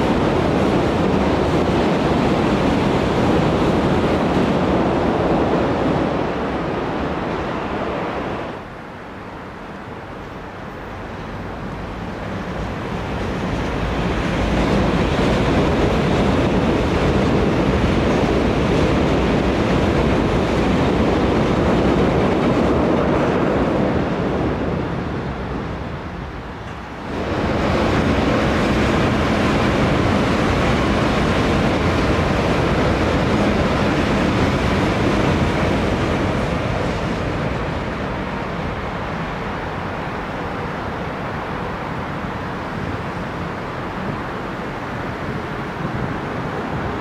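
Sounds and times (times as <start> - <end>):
electric trains rumbling past: 0.0 - 47.0.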